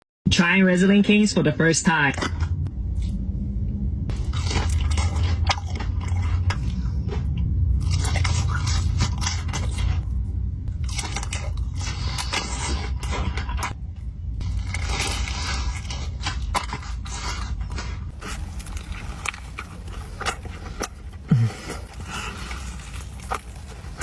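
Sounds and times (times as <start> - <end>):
steady low hum: 0.3 - 24.0
close-up chewing: 2.1 - 3.3, 4.1 - 24.0.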